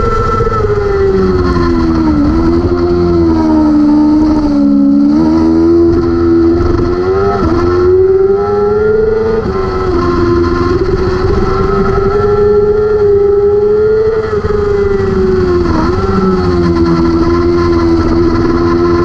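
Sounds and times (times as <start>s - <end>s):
motorcycle engine at racing speed: 0.0s - 19.0s.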